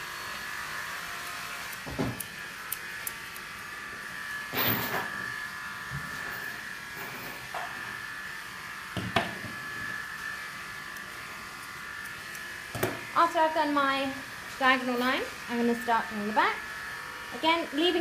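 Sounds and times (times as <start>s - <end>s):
small motor buzzing and whining: 0.0s - 18.0s.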